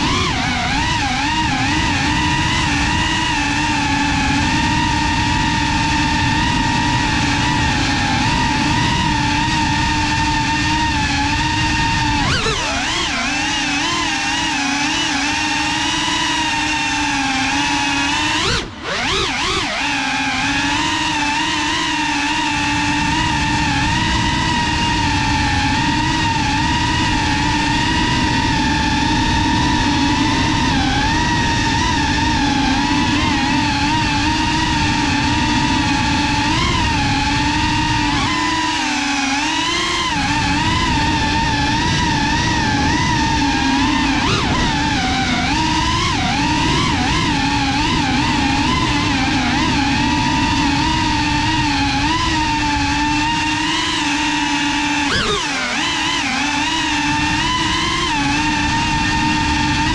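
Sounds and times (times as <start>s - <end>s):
drone motors whining: 0.0s - 59.9s
rush of air from propellers: 0.0s - 59.9s.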